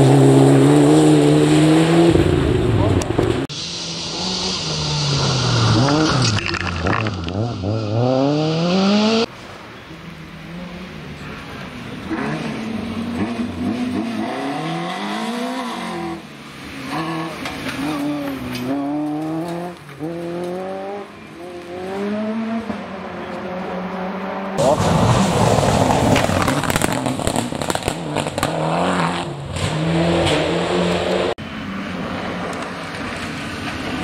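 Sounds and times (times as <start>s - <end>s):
rally car engine revving: 0.0s - 9.3s, 10.4s - 34.0s.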